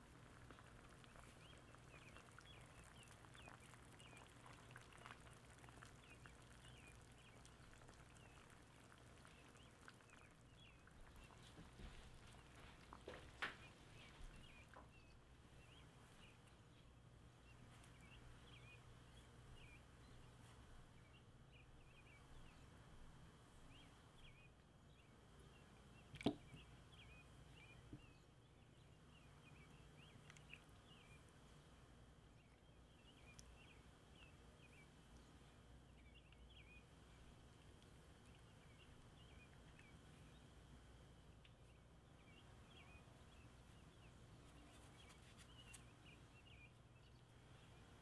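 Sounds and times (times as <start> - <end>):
faint birds chirping: 0.0 - 48.0.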